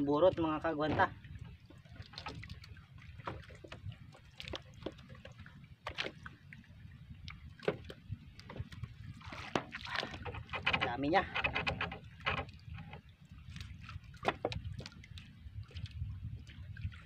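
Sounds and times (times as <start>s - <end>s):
water sloshing against boat hull: 0.0s - 17.0s.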